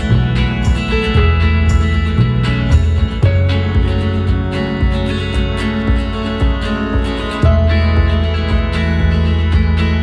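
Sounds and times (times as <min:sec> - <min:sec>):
background music with strummed guitar: 0:00.0 - 0:10.0.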